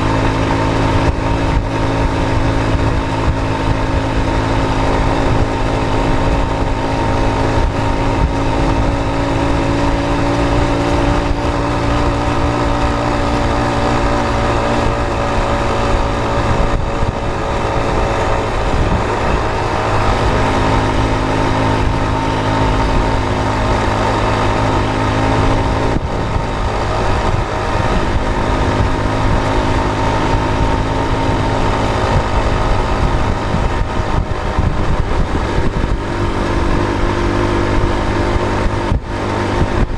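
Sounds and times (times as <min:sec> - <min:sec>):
constant low rumble: 0:00.0 - 0:39.9
vehicle engine running: 0:00.0 - 0:39.9.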